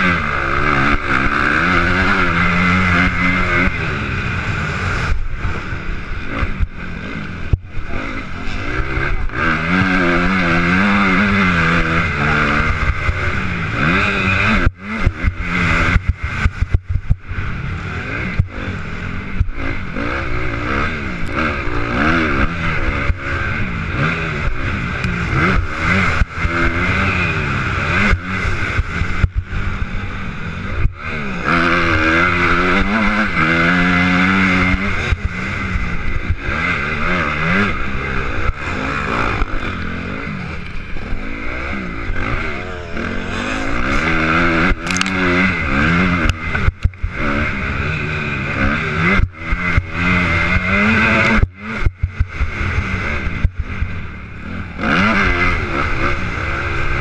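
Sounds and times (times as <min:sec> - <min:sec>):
motocross bike engine revving: 0:00.0 - 0:57.0
rush of noise: 0:00.0 - 0:57.0.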